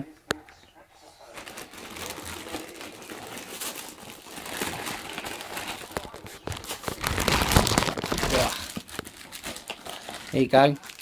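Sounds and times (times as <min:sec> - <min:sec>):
plastic packaging crinkling: 0:01.3 - 0:11.0.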